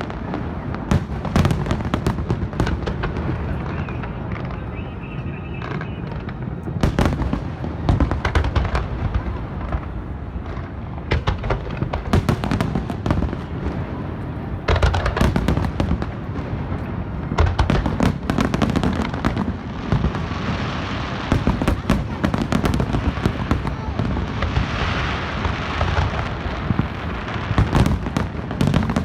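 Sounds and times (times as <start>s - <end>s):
fireworks cracks and bangs: 0.0s - 29.0s.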